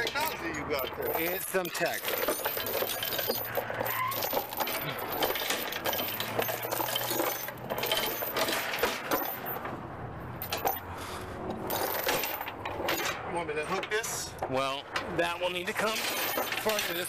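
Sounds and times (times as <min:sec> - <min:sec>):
steel chain clinking and rattling: 0:00.0 - 0:14.3, 0:14.9 - 0:17.0.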